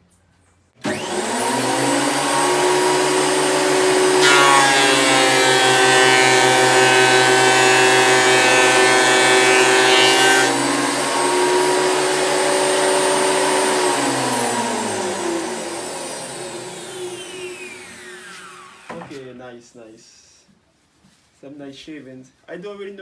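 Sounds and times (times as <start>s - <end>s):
thickness planer whining: 0.8s - 19.4s.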